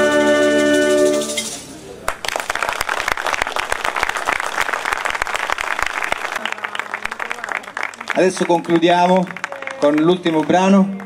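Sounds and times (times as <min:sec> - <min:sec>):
audience applause: 0:02.1 - 0:11.0.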